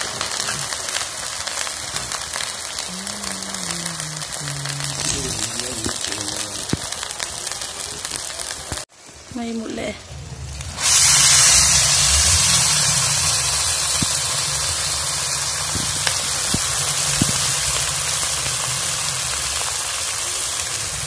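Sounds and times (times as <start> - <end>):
oil popping: 0.0 - 8.9, 10.5 - 20.8
vegetables sizzling in hot oil: 0.0 - 21.0.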